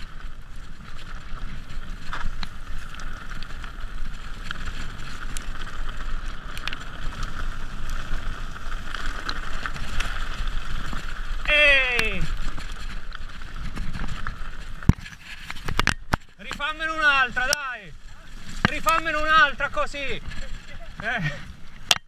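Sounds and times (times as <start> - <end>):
tyres rushing over trail: 0.0 - 21.9
bike clicks and rattles: 0.0 - 22.0.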